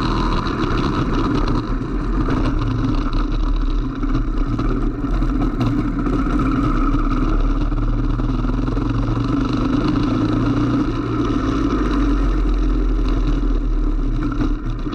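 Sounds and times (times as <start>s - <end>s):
go-kart engine accelerating: 0.0s - 14.9s.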